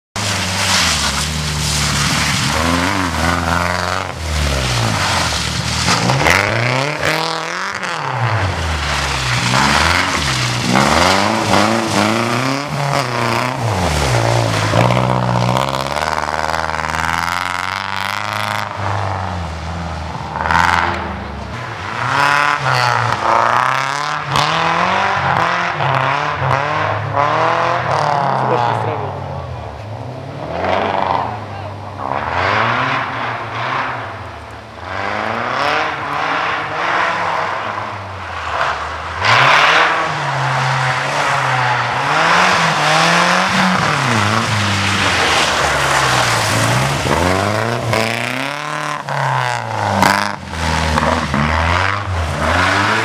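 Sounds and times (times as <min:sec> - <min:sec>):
rally car engine revving: 0:00.2 - 0:53.0.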